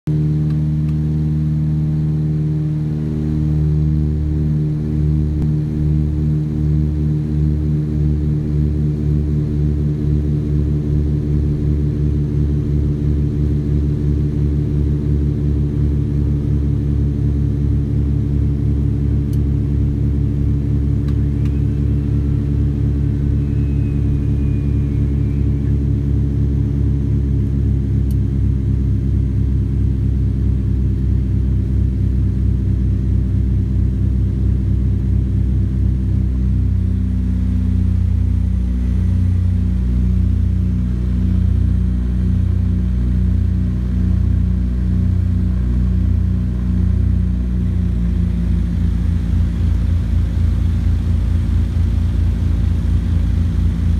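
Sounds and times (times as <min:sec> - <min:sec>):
propeller plane cabin drone: 0:00.1 - 0:53.9.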